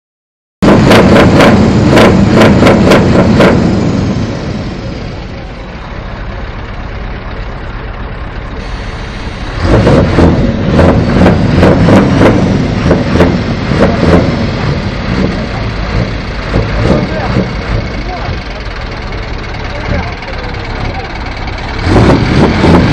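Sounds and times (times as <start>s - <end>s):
diesel truck engine revving: 0.6s - 22.9s.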